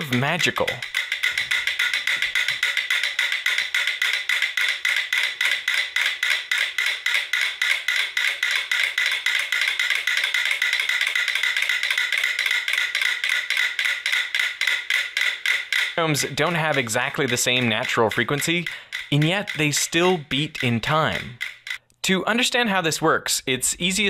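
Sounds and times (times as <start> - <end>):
metronomes ticking: 0.0 - 22.6.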